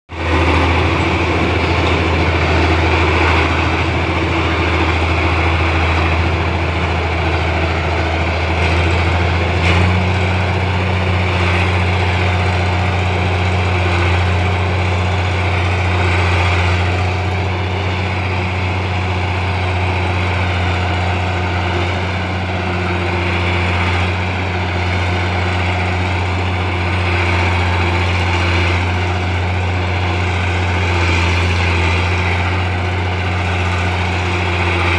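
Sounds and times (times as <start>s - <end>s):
bulldozer diesel engine running: 0.1s - 34.9s.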